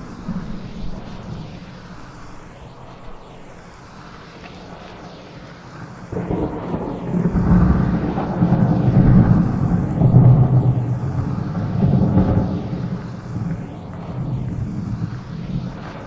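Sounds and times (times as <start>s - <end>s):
heavy rain: 0.0s - 16.0s
thunder rumbling: 0.0s - 16.0s.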